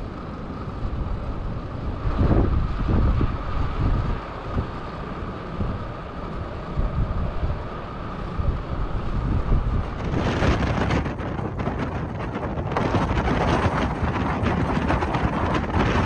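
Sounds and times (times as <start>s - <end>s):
storm wind gusting on microphone: 0.0s - 16.0s.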